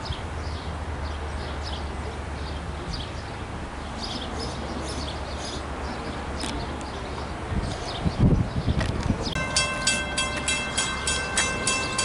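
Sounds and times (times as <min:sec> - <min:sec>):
small birds chirping: 0:00.0 - 0:09.9
diesel locomotive rumbling: 0:00.0 - 0:12.0.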